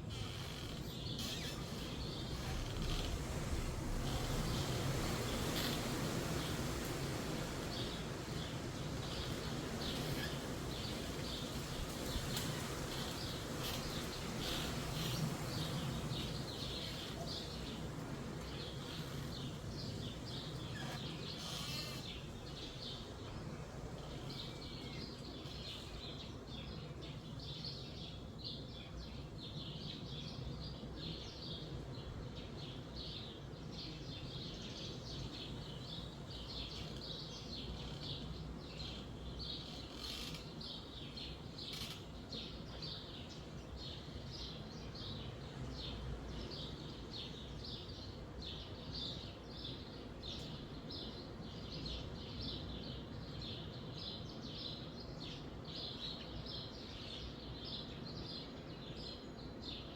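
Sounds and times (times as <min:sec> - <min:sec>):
small birds chirping: 0:00.0 - 0:59.9
wind rushing through trees: 0:00.0 - 0:59.9.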